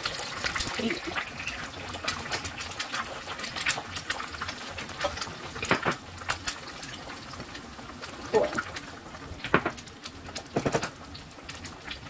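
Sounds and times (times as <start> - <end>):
eggs frying with popping oil: 0.0 - 12.0.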